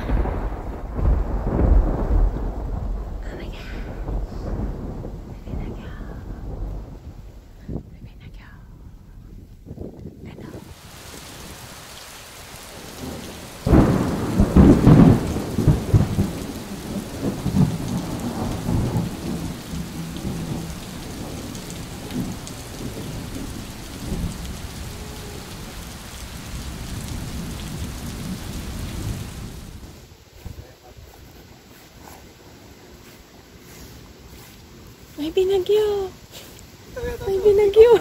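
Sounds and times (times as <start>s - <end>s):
thunderclap rumbling: 0.0s - 30.7s
steady rain: 0.0s - 38.0s.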